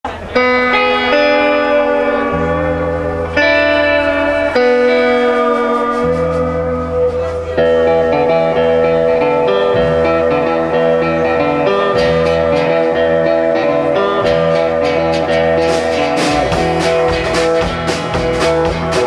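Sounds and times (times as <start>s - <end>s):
live band guitar instrumental: 0.0s - 19.0s.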